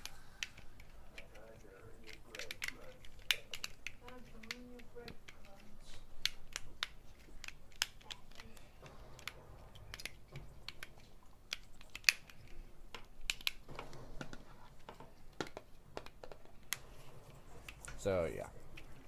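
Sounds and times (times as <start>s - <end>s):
plastic puzzle pieces clicking: 0.0s - 16.8s.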